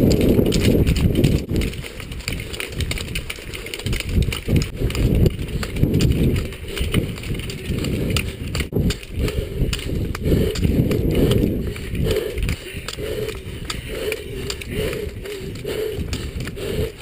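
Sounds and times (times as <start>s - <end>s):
ski poles striking gravel: 0.0s - 16.4s
footsteps on gravel: 0.0s - 17.0s.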